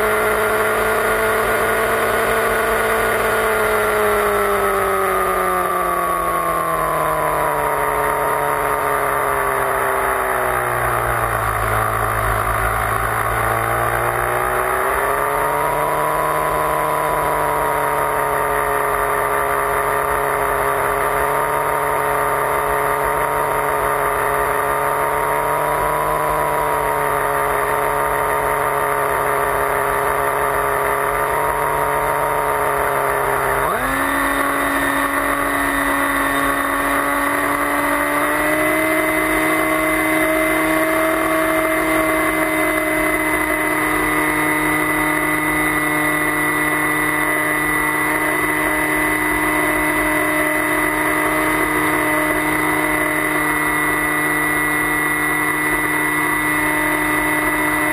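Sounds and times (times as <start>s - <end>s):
motor and propeller whine: 0.0s - 57.9s.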